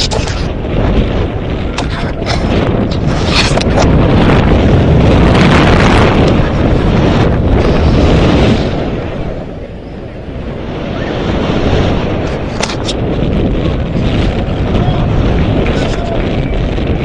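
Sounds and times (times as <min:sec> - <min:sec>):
loud wind on microphone: 0:00.0 - 0:17.0.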